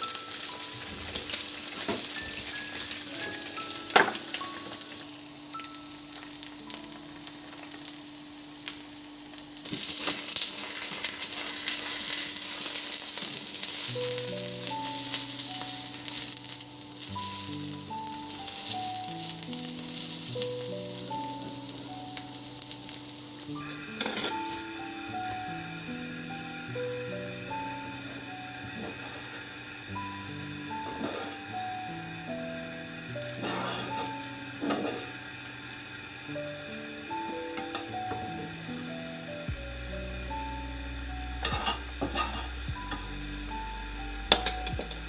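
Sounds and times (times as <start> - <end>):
food sizzling in a frying pan: 0.0 - 45.0
soft melodic background music: 0.0 - 45.0.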